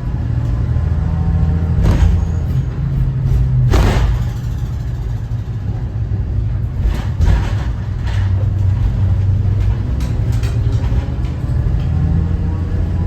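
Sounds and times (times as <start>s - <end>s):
bus diesel engine rumbling: 0.0s - 13.0s
bus rattles and knocks: 0.0s - 13.0s.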